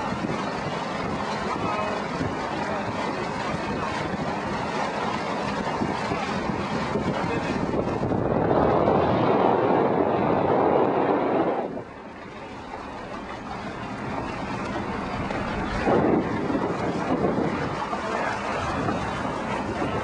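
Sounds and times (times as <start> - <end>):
boat motor: 0.0 - 20.0
water rushing: 0.0 - 20.0
wind buffeting microphone: 0.0 - 20.0.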